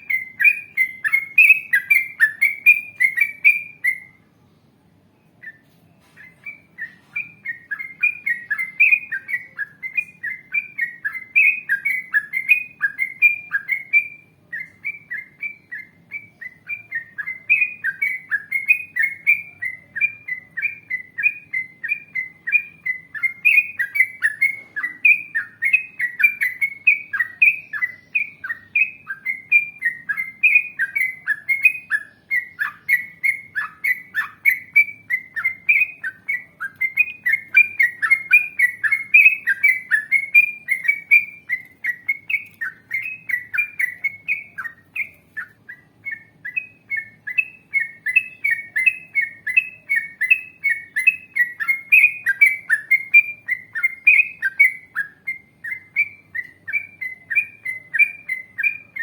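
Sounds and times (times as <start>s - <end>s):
bulbul singing chirpy whistles: 0.0s - 4.3s, 5.2s - 59.0s.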